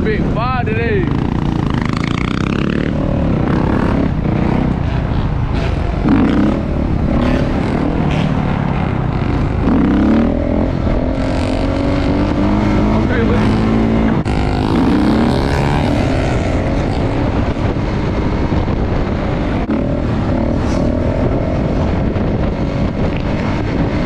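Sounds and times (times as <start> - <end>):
dirt bike engine revving: 1.0 - 24.0.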